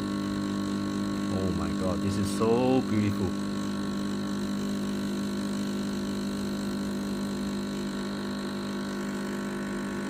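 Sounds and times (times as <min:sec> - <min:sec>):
espresso machine pump humming: 0:00.0 - 0:10.0.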